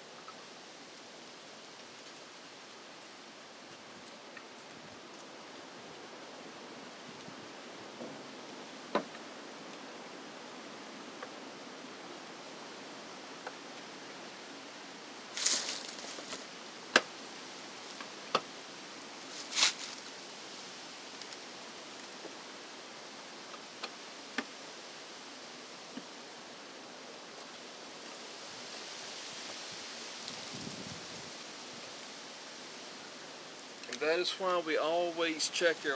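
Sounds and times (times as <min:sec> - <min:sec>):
steady hiss: 0:00.0 - 0:35.9.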